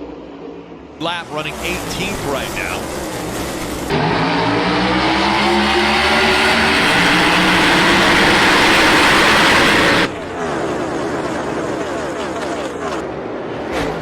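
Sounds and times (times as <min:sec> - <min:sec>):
race car engines roaring: 0:00.2 - 0:14.0.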